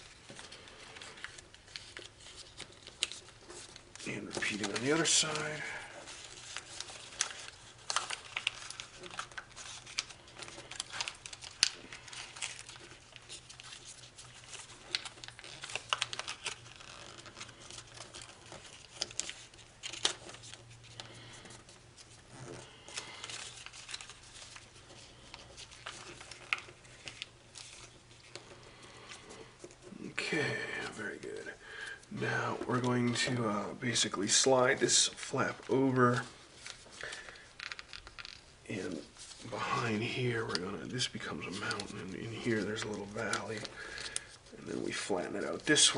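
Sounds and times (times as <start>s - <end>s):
foil crinkling: 0.0s - 45.9s.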